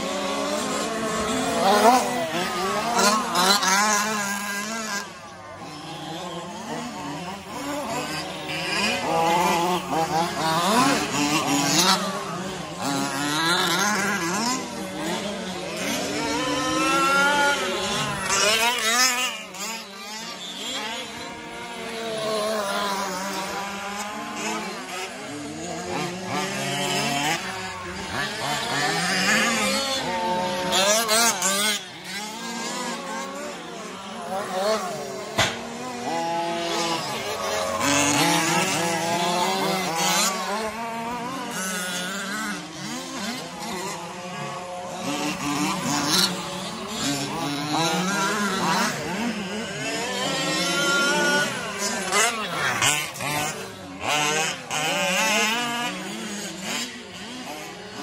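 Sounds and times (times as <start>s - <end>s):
remote-control truck motors revving: 0.0s - 58.0s.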